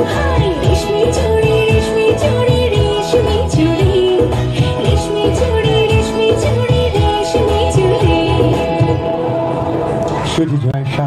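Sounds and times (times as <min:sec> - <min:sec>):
dance song over loudspeakers: 0:00.0 - 0:10.4.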